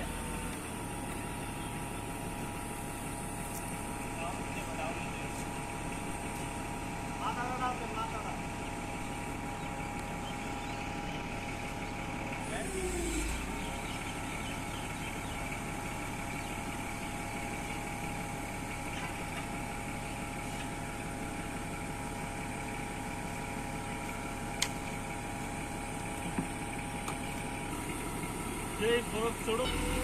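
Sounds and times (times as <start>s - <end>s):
forklift engine idling: 0.0s - 30.0s.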